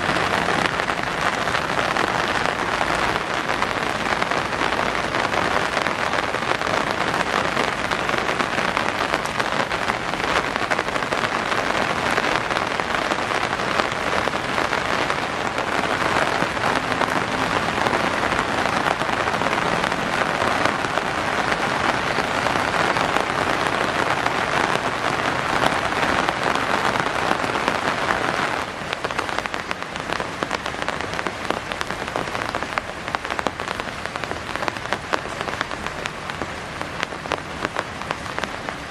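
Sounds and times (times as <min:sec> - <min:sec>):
raindrops ticking on surfaces: 0:00.0 - 0:38.9
steady rain falling: 0:00.0 - 0:38.9.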